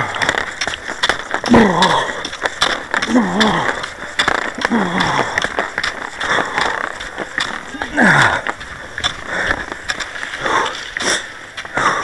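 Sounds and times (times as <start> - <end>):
ski poles clicking on snow: 0.0 - 12.0
skis sliding on snow: 0.0 - 12.0.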